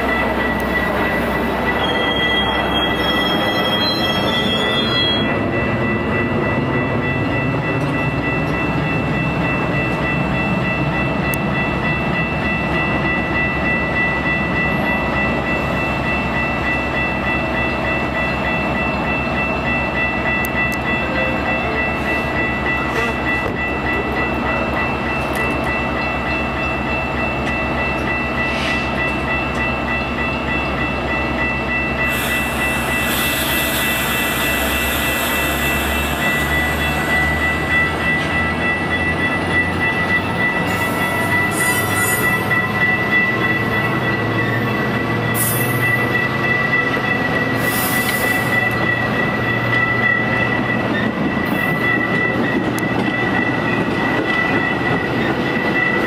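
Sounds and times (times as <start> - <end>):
train cars rolling: 0.0 - 56.0
train low rumble: 0.0 - 56.0.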